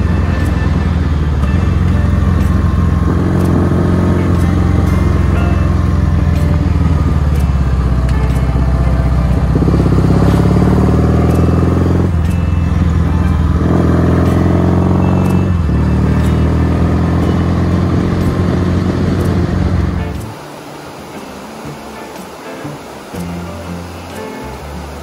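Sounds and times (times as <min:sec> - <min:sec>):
motorcycle engine accelerating: 0:00.0 - 0:20.4.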